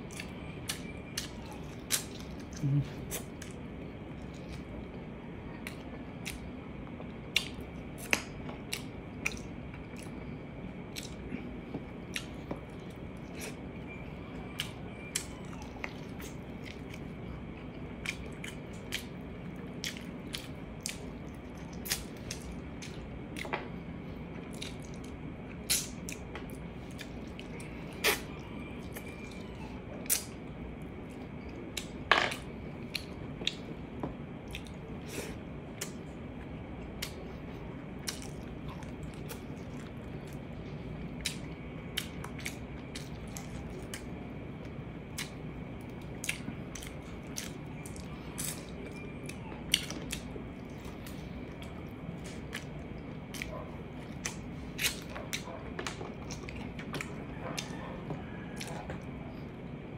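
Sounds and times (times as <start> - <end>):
person chewing ribs: 0.0 - 59.8.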